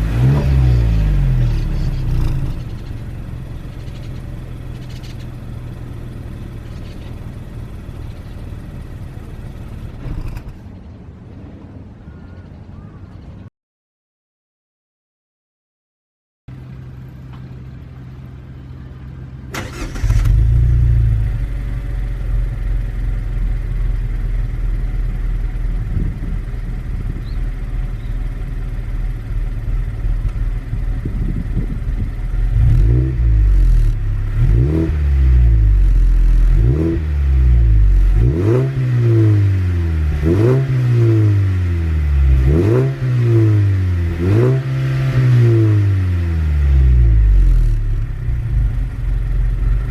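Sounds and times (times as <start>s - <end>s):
car engine revving: 0.0s - 10.6s, 19.5s - 49.9s
car engine idling: 0.0s - 13.0s, 16.5s - 38.5s, 39.2s - 49.9s.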